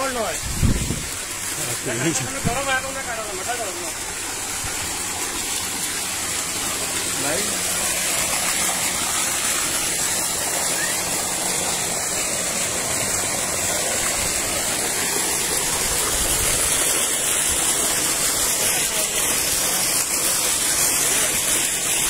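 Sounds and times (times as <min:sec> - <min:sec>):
water gushing into a tank: 0:00.0 - 0:22.0.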